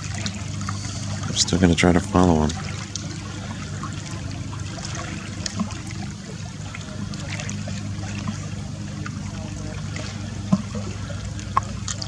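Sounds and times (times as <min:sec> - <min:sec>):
steady low hum: 0:00.0 - 0:12.0
water trickling and lapping: 0:00.0 - 0:12.0.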